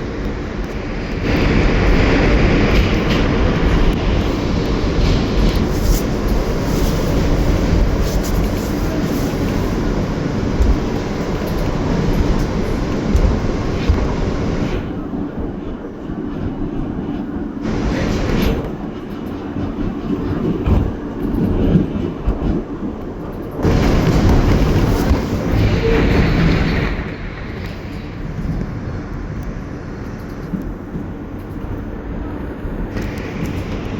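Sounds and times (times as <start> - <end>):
subway train rumbling on track: 0.0 - 33.9.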